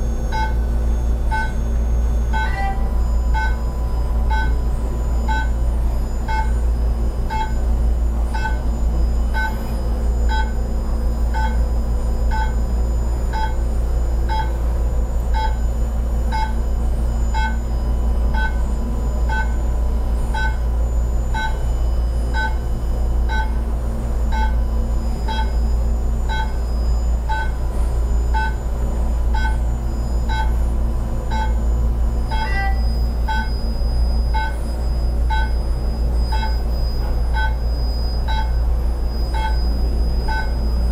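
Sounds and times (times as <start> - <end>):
short beeps: 0.0 - 40.9
steady low hum: 0.0 - 40.9.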